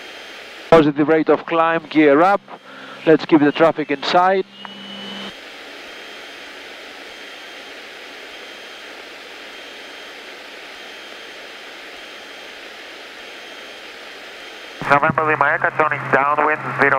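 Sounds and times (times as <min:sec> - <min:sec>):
aircraft engine and propeller hiss: 0:00.0 - 0:16.9
faint high steady whine: 0:00.0 - 0:16.9.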